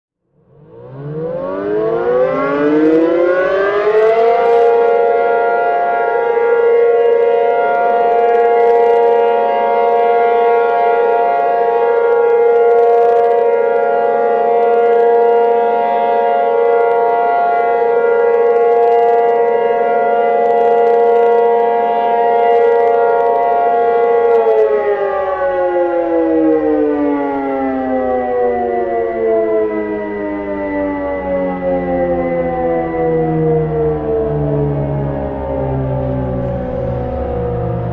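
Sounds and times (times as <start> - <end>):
warning siren wailing: 0.2 - 37.9.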